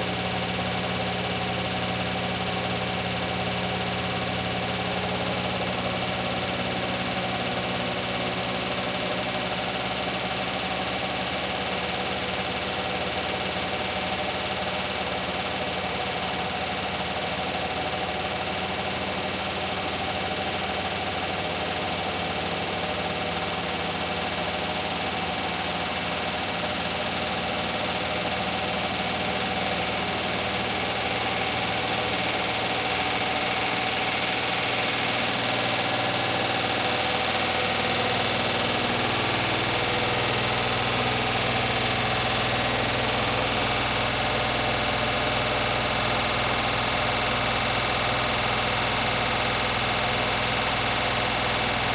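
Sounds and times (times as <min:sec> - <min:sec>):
washing machine spinning: 0:00.0 - 0:51.9.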